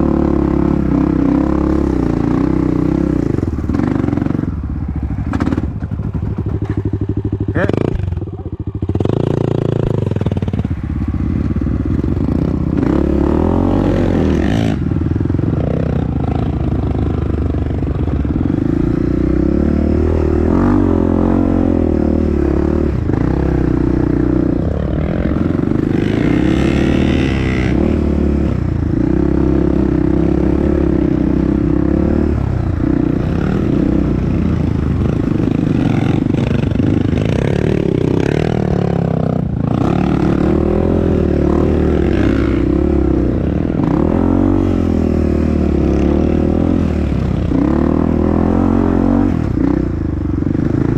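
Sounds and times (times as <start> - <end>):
dirt bike engine revving: 0.0 - 10.8, 11.4 - 50.9.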